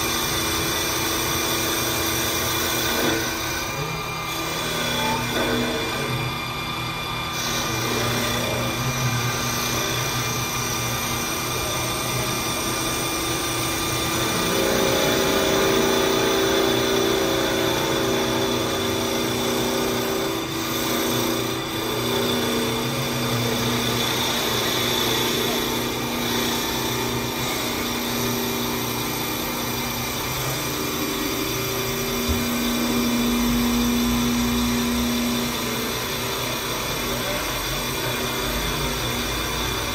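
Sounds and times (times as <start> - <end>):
lathe cutter shaving wood: 0.0 - 39.9
motor whine: 0.0 - 39.9.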